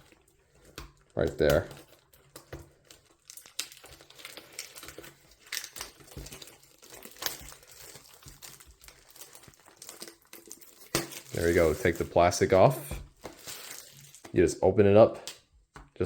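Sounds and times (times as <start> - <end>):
plastic wrapping crinkling and tearing: 0.0 - 14.5.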